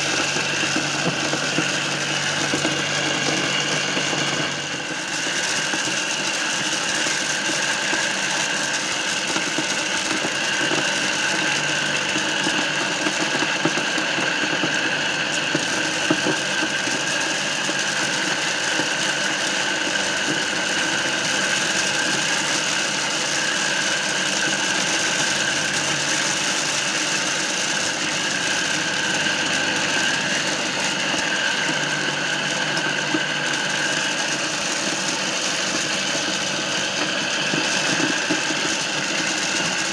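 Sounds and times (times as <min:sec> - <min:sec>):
corn sheller motor whining: 0:00.0 - 0:39.9.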